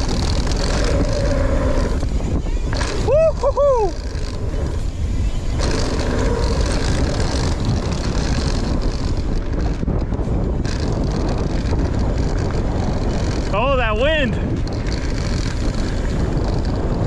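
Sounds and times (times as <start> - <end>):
tyres hissing on trail: 0.0 - 13.7
bike clicks and rattles: 0.0 - 17.0
wind rumbling on microphone: 0.0 - 17.0.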